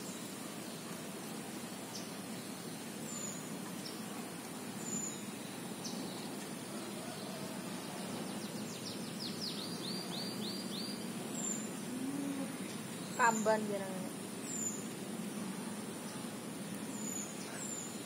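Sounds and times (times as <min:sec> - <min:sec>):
low background noise: 0:00.0 - 0:18.0
birds chirping: 0:01.8 - 0:18.0.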